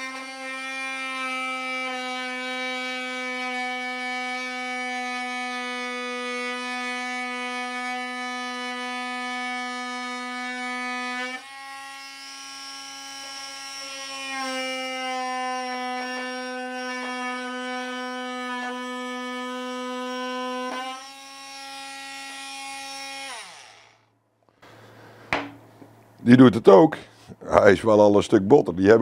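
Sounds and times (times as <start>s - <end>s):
oscillating multitool cutting wood: 0.0s - 24.1s.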